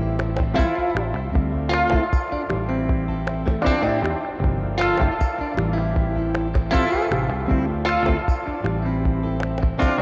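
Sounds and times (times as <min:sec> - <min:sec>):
plucked notes over bass: 0:00.0 - 0:10.0.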